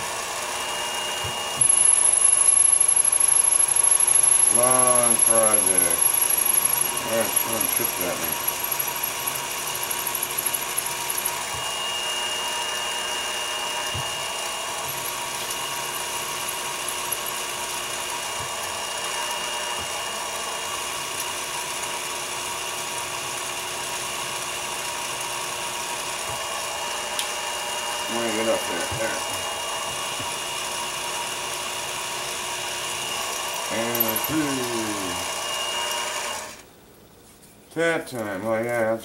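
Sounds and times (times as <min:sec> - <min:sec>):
drill boring through metal: 0:00.0 - 0:36.7.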